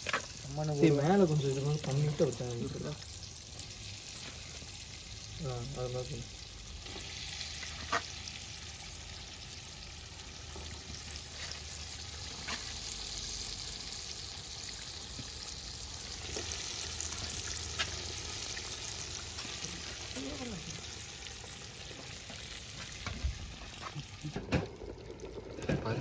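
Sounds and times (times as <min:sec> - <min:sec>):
curry sizzling and bubbling in a pot: 0:00.0 - 0:26.0.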